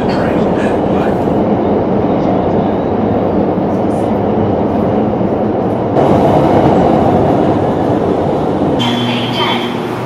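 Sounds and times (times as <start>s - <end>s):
subway train rumble: 0.0s - 10.0s.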